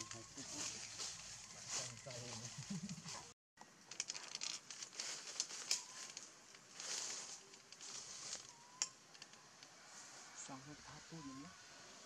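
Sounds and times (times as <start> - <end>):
leaves and twigs rustling: 0.0 - 11.5.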